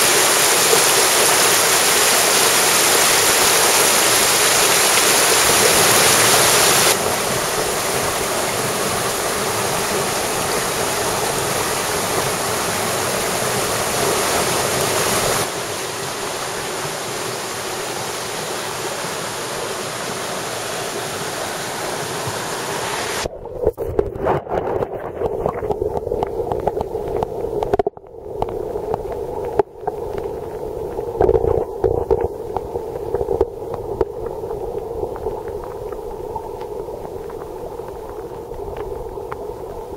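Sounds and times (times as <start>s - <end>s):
stream rushing: 0.0s - 39.9s
water gurgling: 0.0s - 39.9s.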